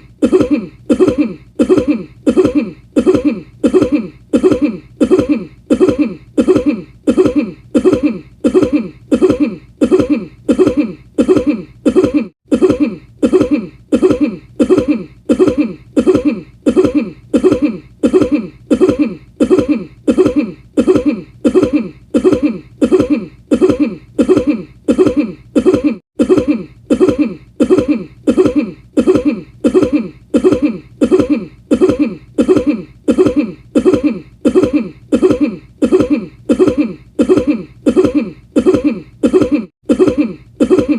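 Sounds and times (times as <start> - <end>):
short cough: 0.1 - 40.9.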